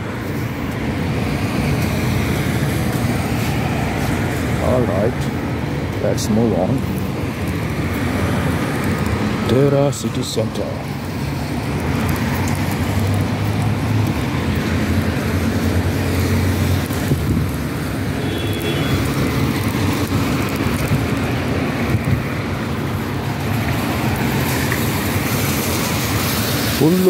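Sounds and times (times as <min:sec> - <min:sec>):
city traffic passing cars: 0:00.0 - 0:27.0.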